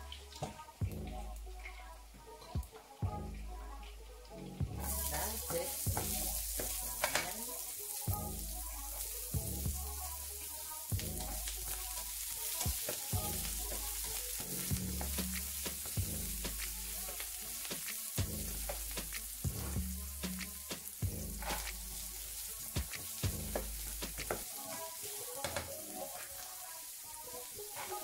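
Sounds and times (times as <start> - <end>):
onions sizzling in oil: 4.9 - 28.0.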